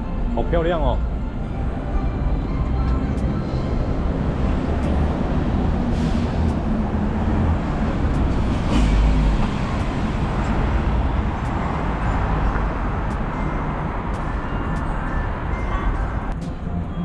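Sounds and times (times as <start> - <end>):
bus and truck driving past: 0.0 - 17.0.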